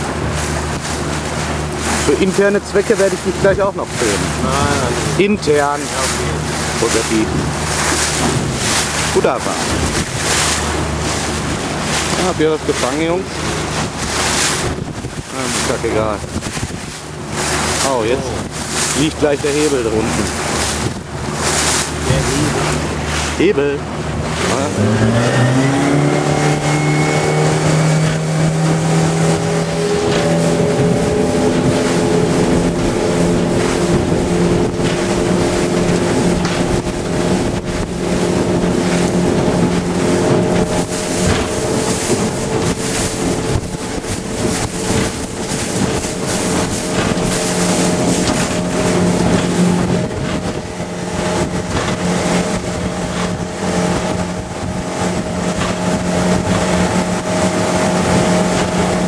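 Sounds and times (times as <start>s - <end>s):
boat wake rushing: 0.0s - 59.0s
outboard motor at full throttle: 0.0s - 59.0s
wind buffeting microphone: 0.0s - 59.0s.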